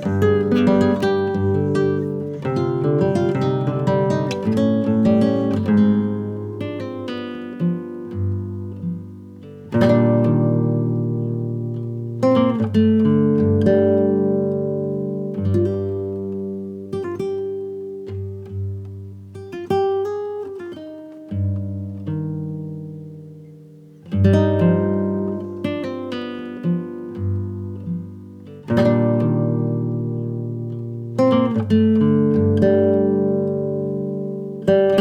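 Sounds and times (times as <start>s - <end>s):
acoustic guitar chords: 0.0s - 35.0s.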